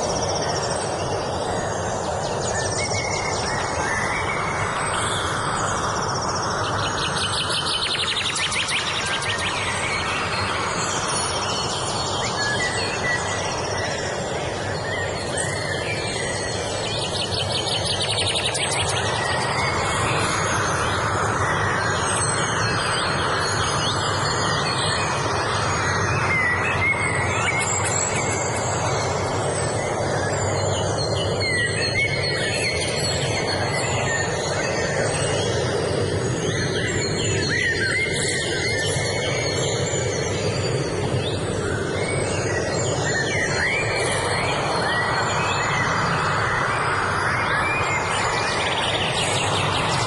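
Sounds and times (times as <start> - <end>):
birds chirping and singing: 0.0 - 50.0.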